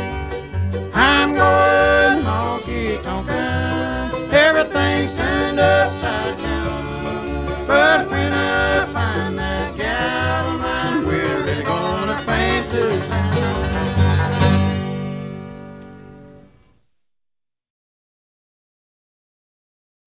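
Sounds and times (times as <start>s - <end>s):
bass line: 0.0s - 16.3s
banjo: 0.0s - 16.5s
guitar: 0.0s - 16.8s.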